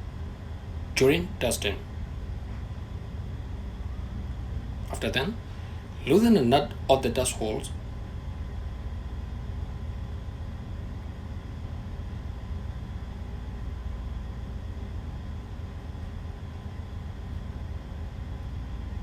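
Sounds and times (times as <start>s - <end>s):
faint constant hum: 0.0s - 19.0s
low machinery rumble: 0.0s - 19.0s.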